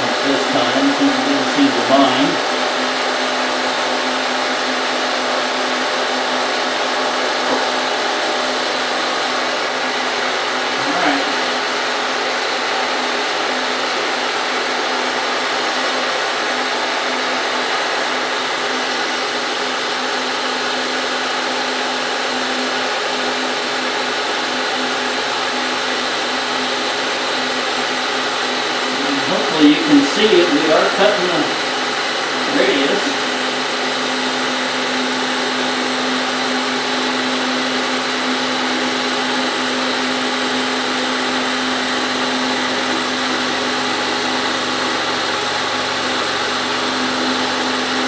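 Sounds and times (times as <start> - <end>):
milling machine motor hum: 0.0 - 48.0.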